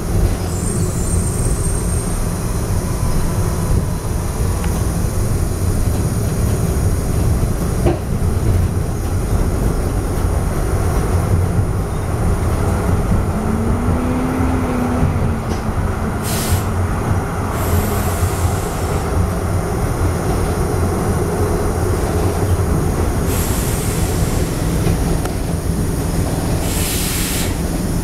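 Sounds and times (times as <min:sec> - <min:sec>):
tram wheels rumbling on rail: 0:00.0 - 0:28.0.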